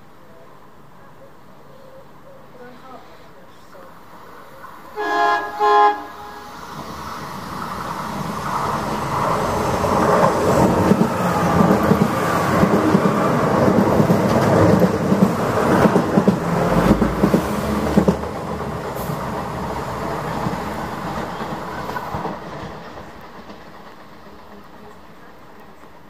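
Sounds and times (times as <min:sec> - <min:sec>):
train wheels rumbling on rail: 0:03.9 - 0:26.0.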